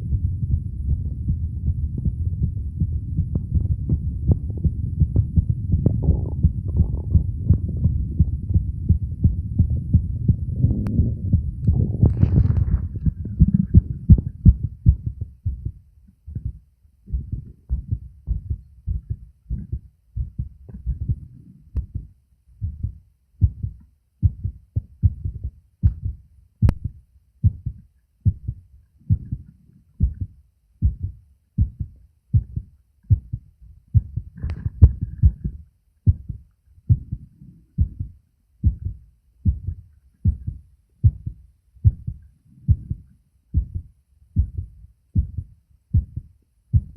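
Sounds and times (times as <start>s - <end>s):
heartbeat: 0.0s - 46.9s.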